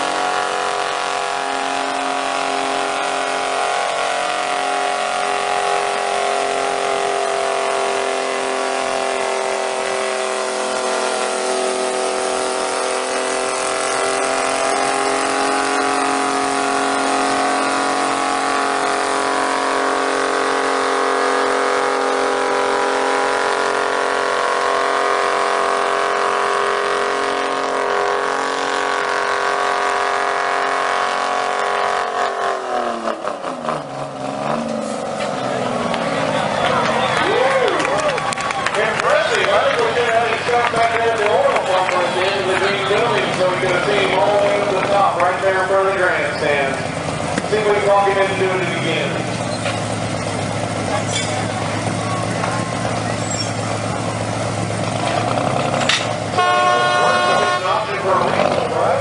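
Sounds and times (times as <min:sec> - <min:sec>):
truck engine at high revs: 0:00.0 - 0:59.0.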